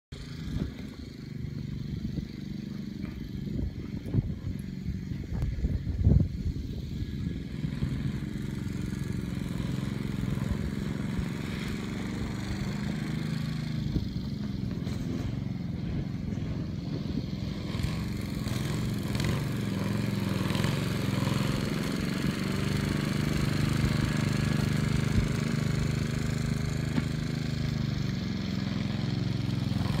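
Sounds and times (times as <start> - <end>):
engine drone: 0.1 - 30.0.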